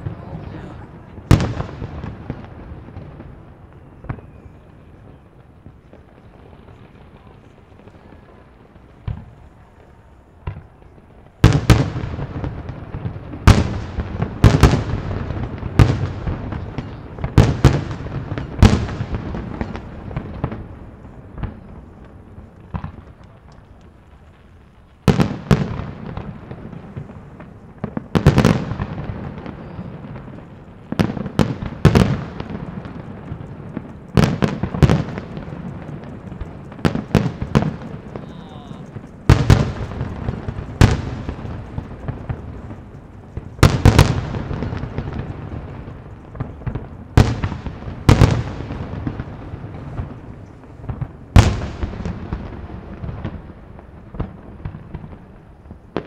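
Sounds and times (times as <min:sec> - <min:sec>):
fireworks bursting with echoing bangs: 0:00.0 - 0:56.0.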